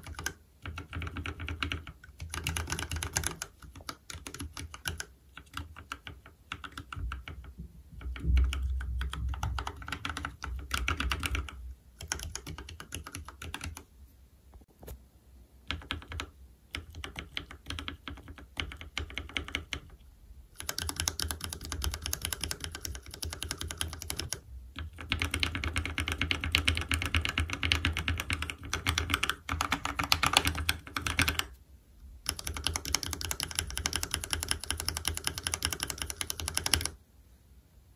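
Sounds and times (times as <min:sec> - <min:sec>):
mechanical keyboard typing: 0:00.0 - 0:13.9, 0:15.6 - 0:31.6, 0:32.2 - 0:37.0.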